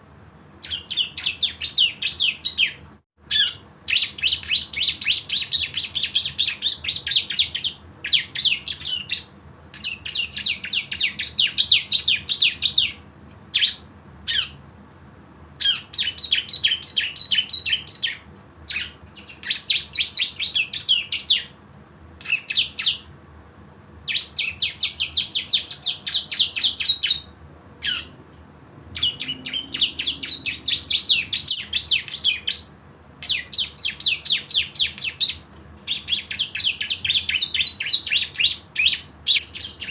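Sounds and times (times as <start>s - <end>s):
bird singing rapid high notes: 0.6s - 14.6s, 15.6s - 21.5s, 22.2s - 23.1s, 24.1s - 39.9s.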